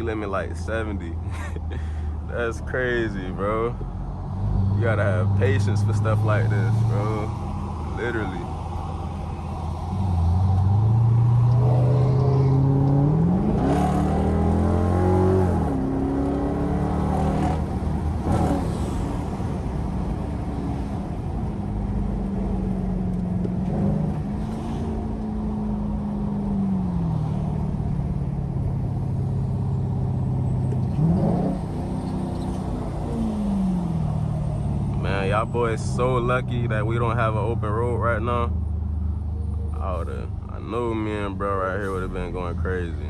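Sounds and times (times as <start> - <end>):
car exhaust accelerating: 0.0 - 43.0.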